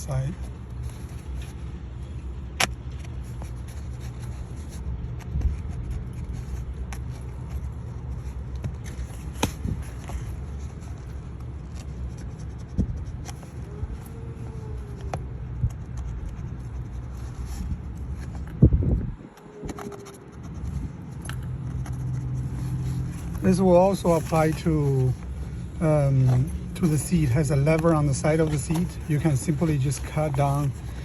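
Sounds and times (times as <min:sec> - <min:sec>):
scraping and rubbing of seat cover: 0:00.0 - 0:31.0
steady low rumble: 0:00.0 - 0:31.0.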